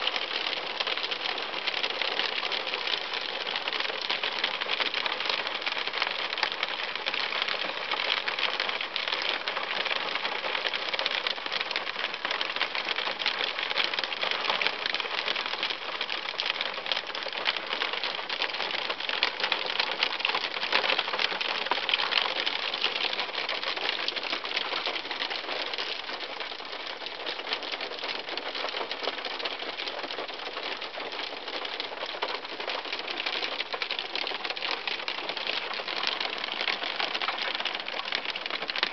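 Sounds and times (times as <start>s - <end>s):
hail pelting a car: 0.0s - 38.9s.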